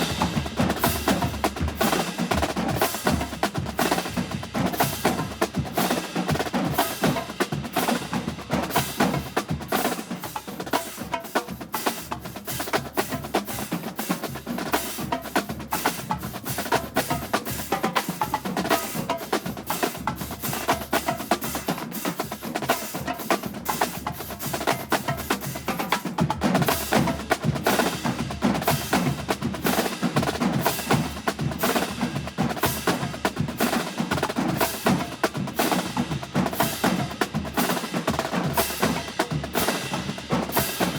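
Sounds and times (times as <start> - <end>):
drumline playing a cadence: 0.0 - 40.9.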